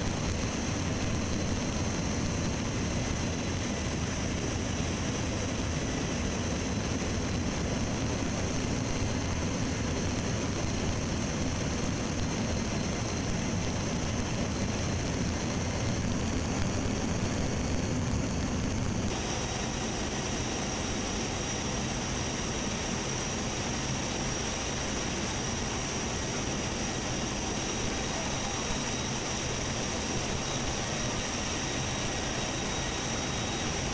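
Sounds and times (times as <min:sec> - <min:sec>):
jet engines roaring: 0:00.0 - 0:33.9
thin high whine: 0:00.0 - 0:33.9.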